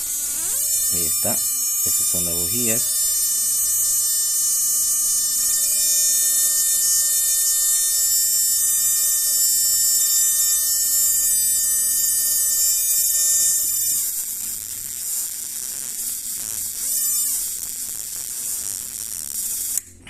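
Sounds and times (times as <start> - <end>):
high hiss of sparking: 0.0 - 20.0
spark-plug tester buzzing: 0.0 - 20.0.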